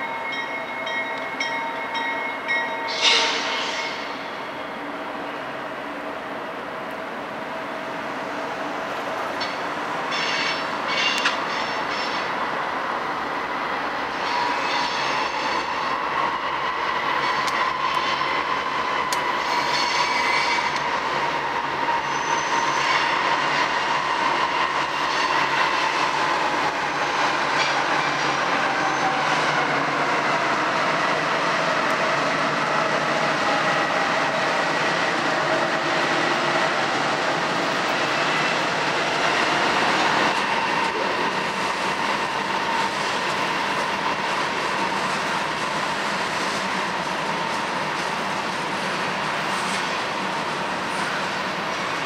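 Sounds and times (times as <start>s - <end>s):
freight train passing: 0.0s - 52.0s.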